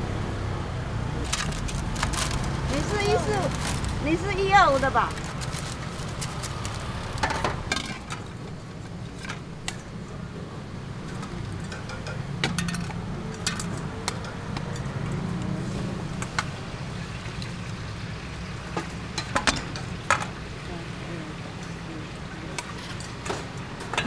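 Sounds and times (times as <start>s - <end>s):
street background hum: 0.0s - 24.0s.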